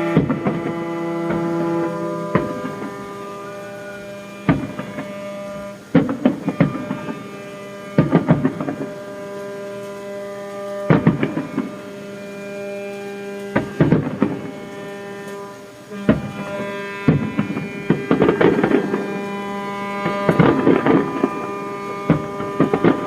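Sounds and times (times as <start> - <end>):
fireworks banging: 0.0 - 23.0
ships' horns blaring: 0.0 - 23.0.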